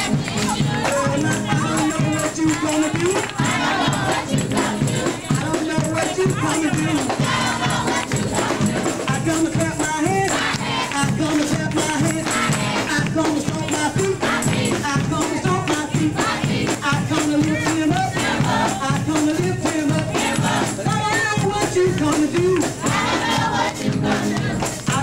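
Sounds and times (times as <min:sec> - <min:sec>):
shaken percussion: 0:00.0 - 0:25.0
upbeat gospel music: 0:00.0 - 0:25.0
voices singing: 0:00.0 - 0:25.0.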